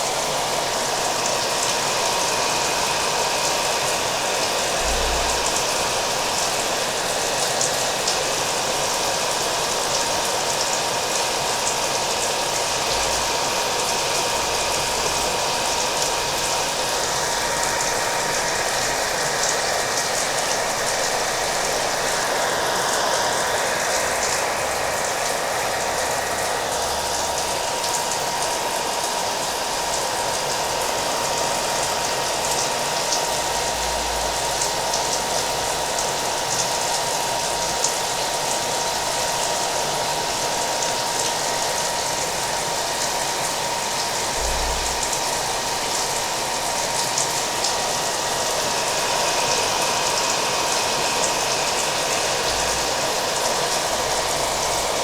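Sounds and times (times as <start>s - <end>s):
continuous rain: 0.0s - 55.0s
hair dryer running: 0.0s - 55.0s.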